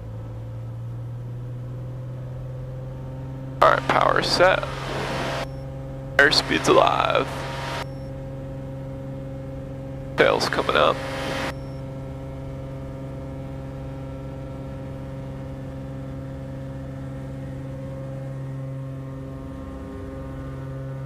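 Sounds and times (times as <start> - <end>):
light aircraft engine drone: 0.0 - 21.0.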